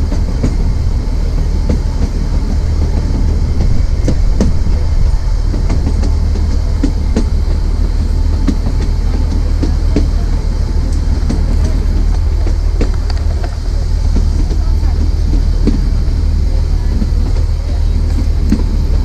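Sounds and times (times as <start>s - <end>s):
train coaches running on track: 0.0s - 19.0s
wheels clicking on rails: 0.0s - 19.0s.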